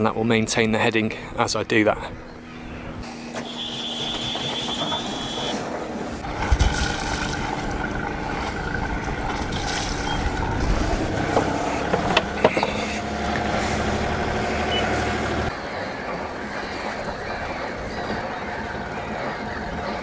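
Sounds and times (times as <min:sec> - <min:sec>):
boat engine running at low revs: 0:01.2 - 0:20.0.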